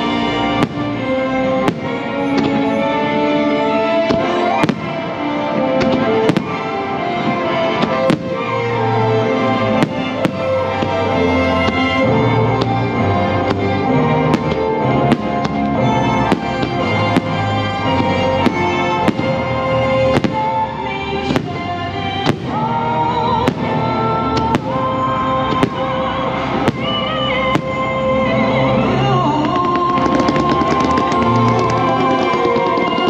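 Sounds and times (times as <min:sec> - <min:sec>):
fireworks banging: 0:00.0 - 0:33.0
fireworks show music: 0:00.0 - 0:33.0.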